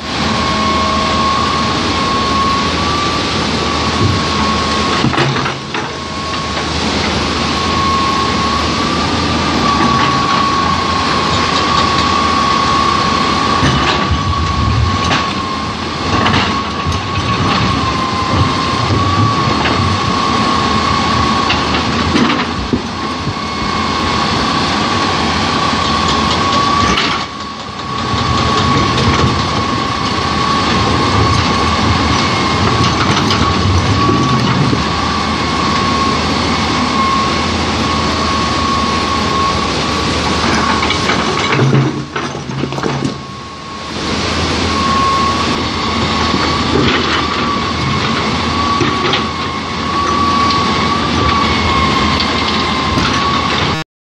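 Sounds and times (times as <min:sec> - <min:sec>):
excavator diesel engine running: 0:00.0 - 0:53.8
high machine whine: 0:00.0 - 0:53.8.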